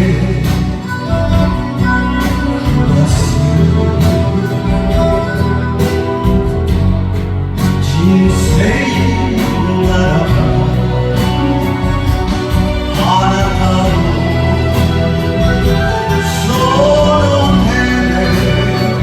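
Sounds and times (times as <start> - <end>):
karaoke backing track: 0.0 - 19.0.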